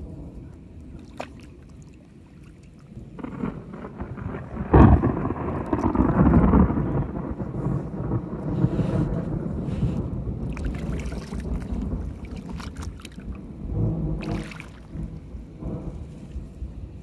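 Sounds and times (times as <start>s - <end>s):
thunder rumbling: 0.0s - 1.0s, 2.9s - 17.0s.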